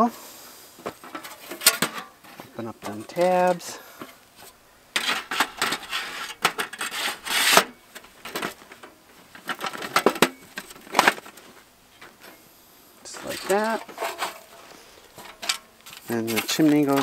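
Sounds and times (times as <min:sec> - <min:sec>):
metal panels scraping and clicking: 0:01.0 - 0:11.5, 0:13.1 - 0:17.0.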